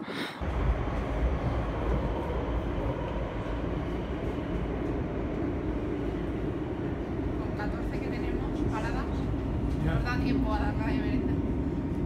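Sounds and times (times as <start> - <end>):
train wheels rumbling: 0.4 - 12.0.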